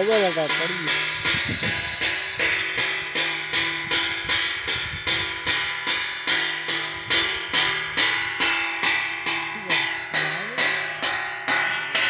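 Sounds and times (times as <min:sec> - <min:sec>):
striker clanging metal plate: 0:00.0 - 0:12.0.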